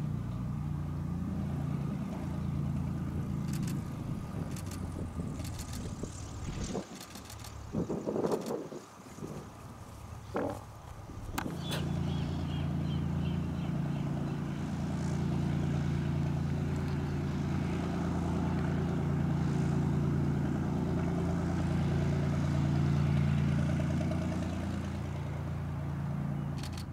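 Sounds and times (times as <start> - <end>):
propeller plane engine idling: 0.0 - 26.9.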